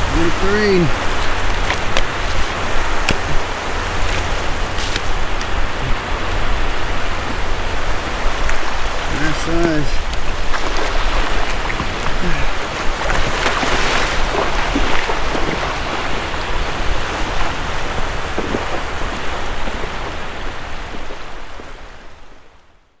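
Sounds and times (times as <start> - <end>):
water splashing: 0.0 - 22.4
surf breaking on a beach: 0.0 - 22.6.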